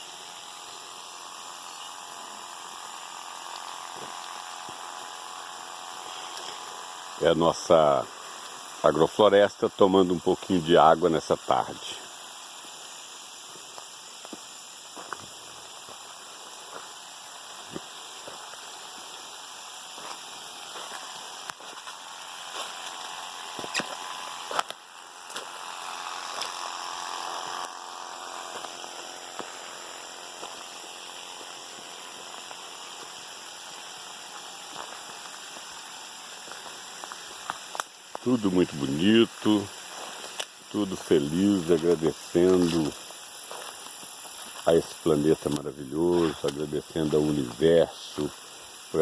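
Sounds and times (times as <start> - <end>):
water spraying with a hiss: 0.0 - 49.0.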